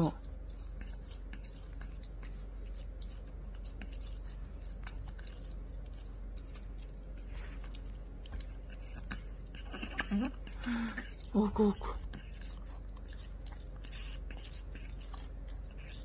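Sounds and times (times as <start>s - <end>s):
dog chewing watermelon: 0.0s - 16.0s
steady low hum: 0.0s - 16.0s.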